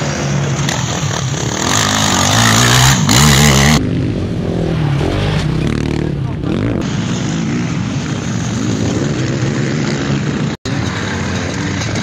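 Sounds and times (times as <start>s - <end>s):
distant motocross engines: 0.0s - 12.0s
quad bike engine revving: 0.0s - 12.0s.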